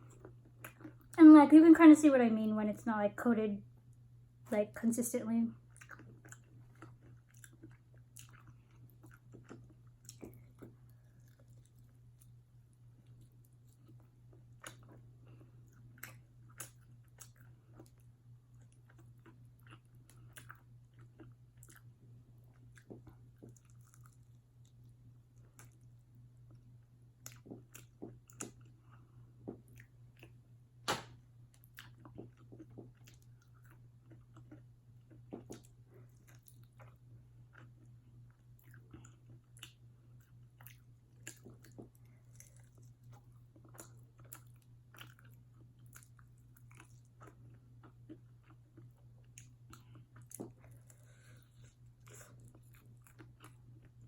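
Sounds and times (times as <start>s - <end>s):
chewing crunchy fried chicken: 0.0s - 1.2s, 5.5s - 30.5s, 31.4s - 54.0s
faint low hum: 0.0s - 54.0s.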